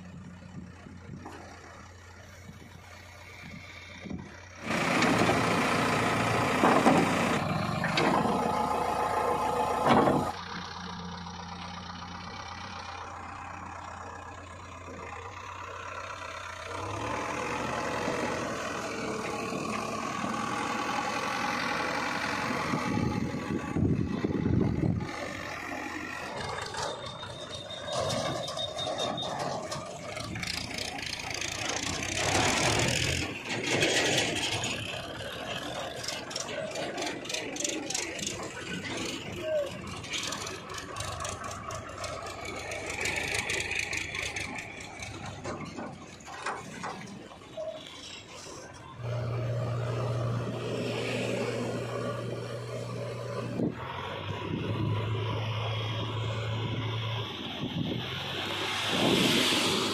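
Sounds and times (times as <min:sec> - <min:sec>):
diesel engines running with rattling: 0:00.0 - 0:59.9
road and tyre noise: 0:00.0 - 0:59.9.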